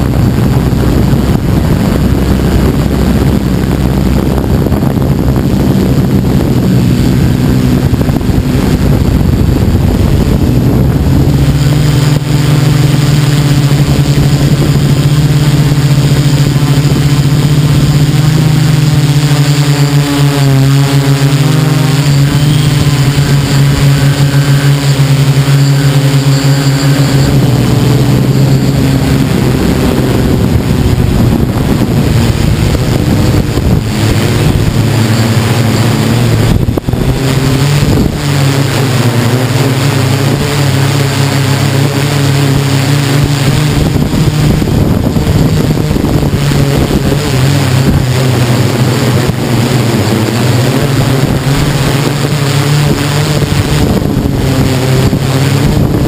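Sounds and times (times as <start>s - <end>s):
drone motors humming: 0.0s - 56.0s
wind buffeting microphone: 0.0s - 56.0s.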